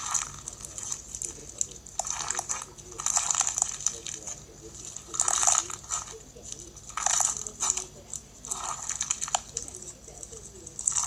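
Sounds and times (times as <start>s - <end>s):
slime beads crackling and crunching: 0.0s - 11.0s.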